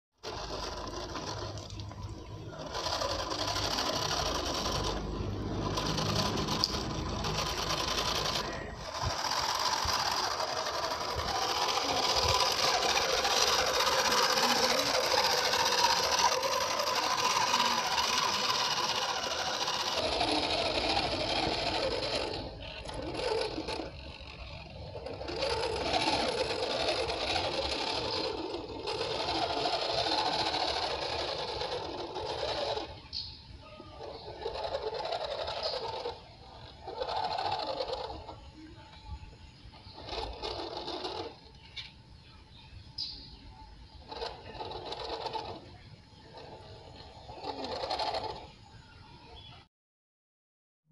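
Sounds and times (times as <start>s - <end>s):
toy truck motor whirring: 0.2s - 49.6s
wheels over gravel: 0.2s - 49.6s.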